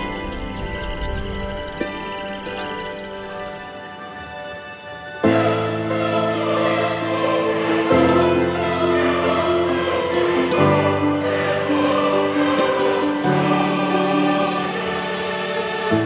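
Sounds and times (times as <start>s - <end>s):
slow sustained chords music: 0.0s - 16.0s.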